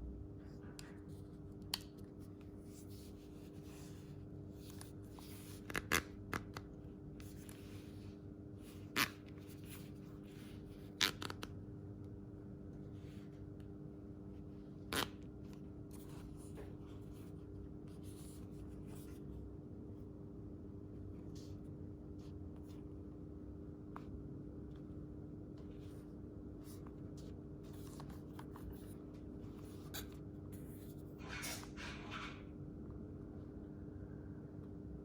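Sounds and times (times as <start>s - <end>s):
steady low hum: 0.0s - 31.3s.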